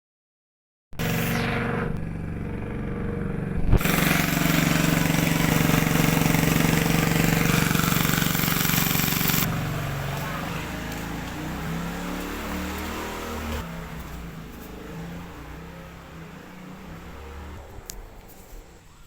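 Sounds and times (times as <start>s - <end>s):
small engine running: 1.0s - 19.0s.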